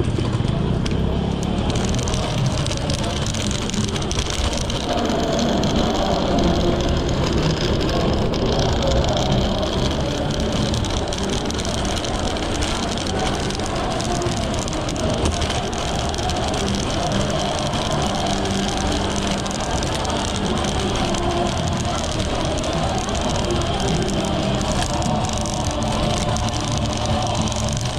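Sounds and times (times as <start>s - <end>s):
passing traffic: 0.0s - 27.9s
rushing rumble of riding: 0.0s - 27.9s.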